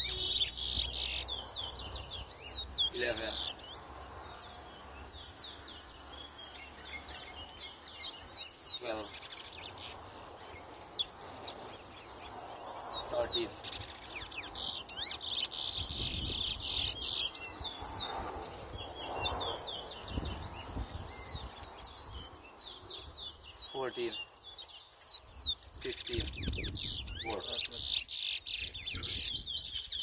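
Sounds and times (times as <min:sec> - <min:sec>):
finches singing: 0:00.0 - 0:30.0.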